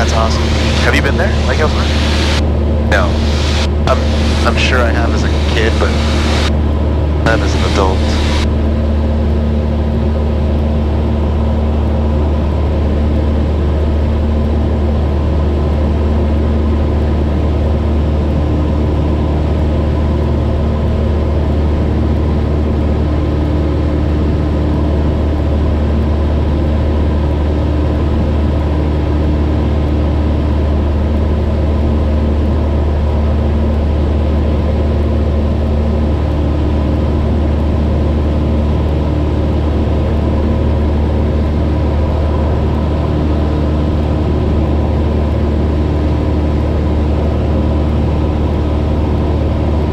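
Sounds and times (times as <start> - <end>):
aircraft engine and propeller drone: 0.0 - 49.9.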